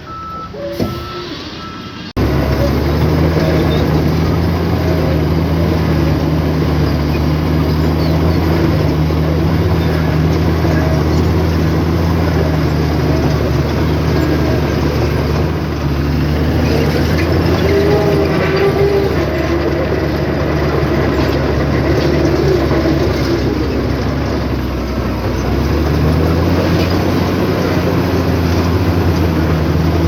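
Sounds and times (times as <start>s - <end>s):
diesel engine of heavy machinery: 0.0s - 30.0s.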